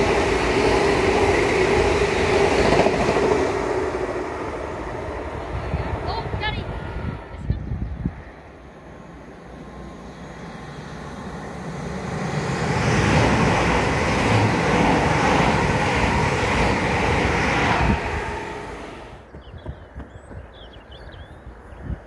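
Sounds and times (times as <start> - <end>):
train wheels on rails: 0.0 - 6.3, 9.4 - 21.0
electric train passing: 0.0 - 20.4.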